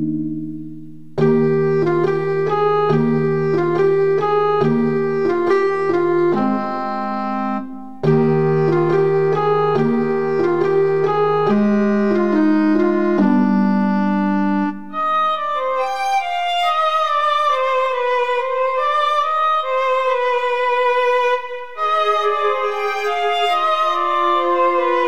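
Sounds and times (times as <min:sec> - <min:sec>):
instrumental keyboard music: 0:00.0 - 0:25.0.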